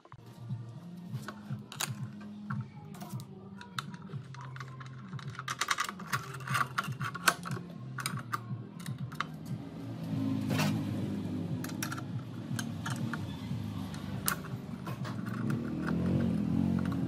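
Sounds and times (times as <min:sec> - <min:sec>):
metal parts clicking and tapping: 0:01.2 - 0:09.6, 0:11.6 - 0:17.0.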